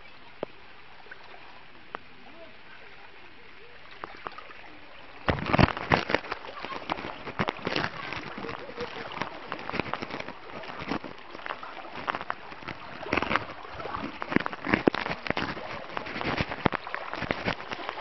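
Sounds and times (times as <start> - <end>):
floodwater sloshing and splashing: 0.0 - 18.0
moving water: 0.0 - 18.0.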